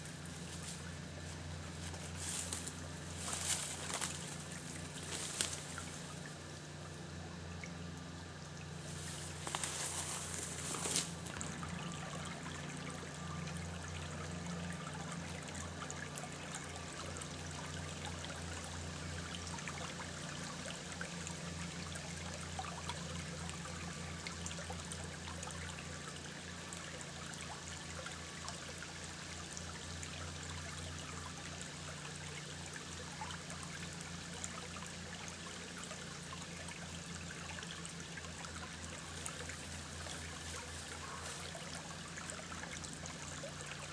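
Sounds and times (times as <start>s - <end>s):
creek trickling: 0.0s - 43.9s.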